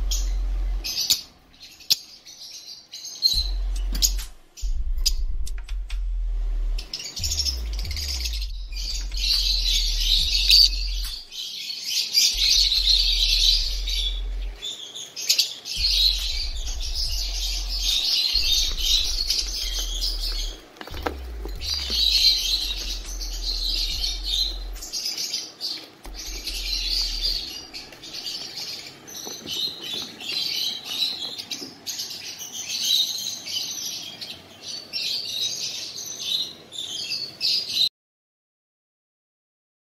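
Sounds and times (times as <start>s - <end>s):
lovebirds chattering and chirping: 0.0s - 5.8s, 6.8s - 37.9s.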